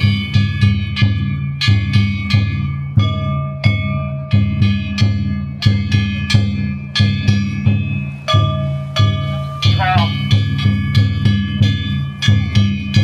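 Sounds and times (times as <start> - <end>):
metal hand gongs ringing: 0.0 - 13.0
taiko drum beaten fast: 0.0 - 13.0.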